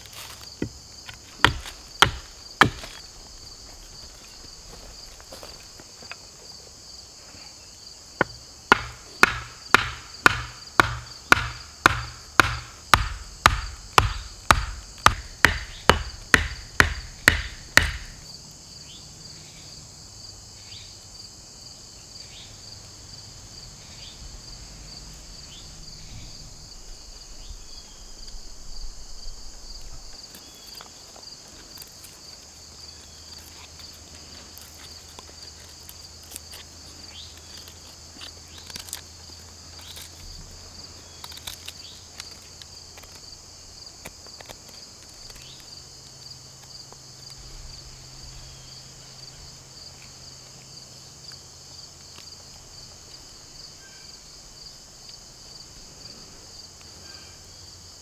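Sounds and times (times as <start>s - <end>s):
insect chorus trilling: 0.0s - 58.0s.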